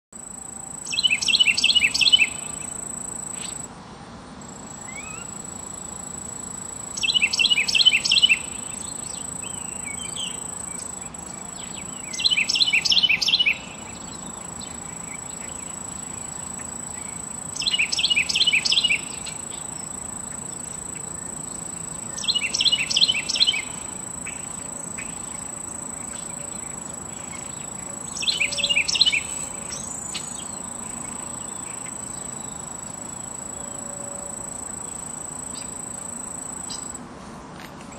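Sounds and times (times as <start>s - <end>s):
steady high-pitched whine: 0.1s - 37.9s
wren singing: 0.2s - 3.7s, 4.4s - 37.0s.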